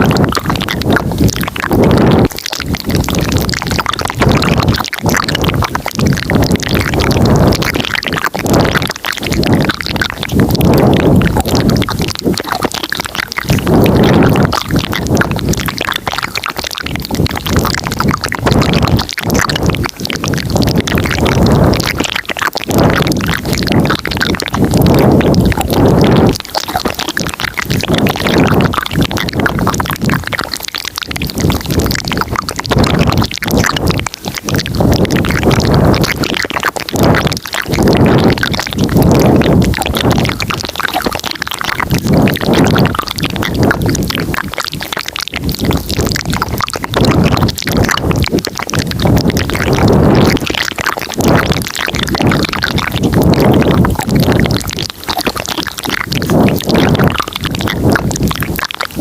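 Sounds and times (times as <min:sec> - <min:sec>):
wet mouth clicks and smacks: 0:00.0 - 0:59.0.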